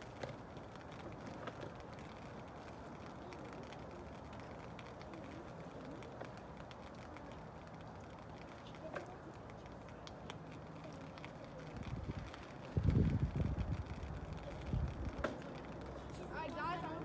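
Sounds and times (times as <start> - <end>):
raindrops tapping: 0.0 - 17.0
steady rain: 0.0 - 17.0.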